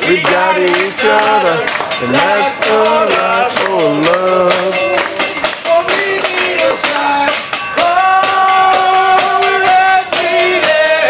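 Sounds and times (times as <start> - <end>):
upbeat pop song with singer: 0.0 - 11.0.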